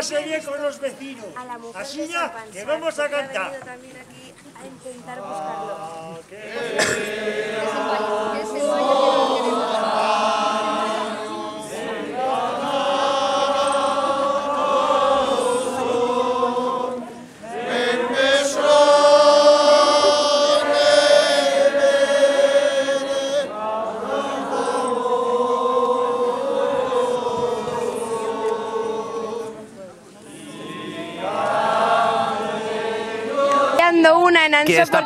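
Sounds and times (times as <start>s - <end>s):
crowd singing: 4.8s - 35.0s.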